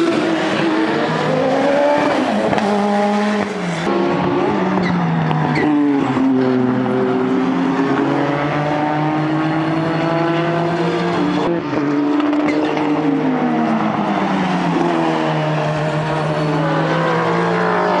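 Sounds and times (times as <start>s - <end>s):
race car engine: 0.0s - 18.0s.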